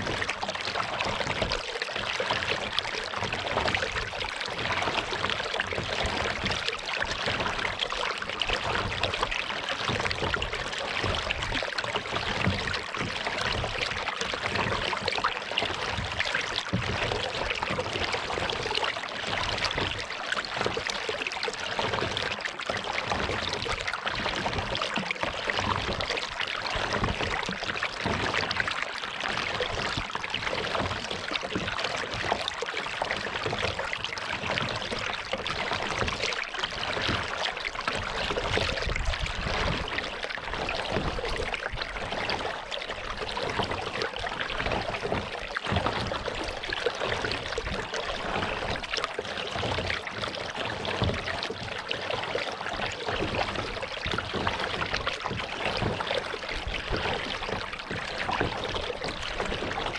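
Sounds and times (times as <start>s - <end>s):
water lapping around kayak: 0.0s - 59.9s.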